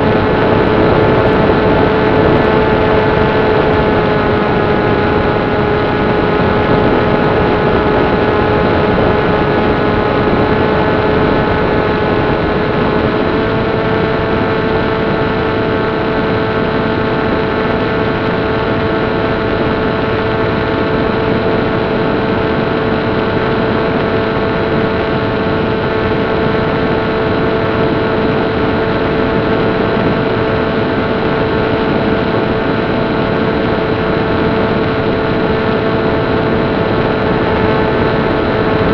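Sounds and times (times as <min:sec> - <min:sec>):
electric motor whine: 0:00.0 - 0:38.9.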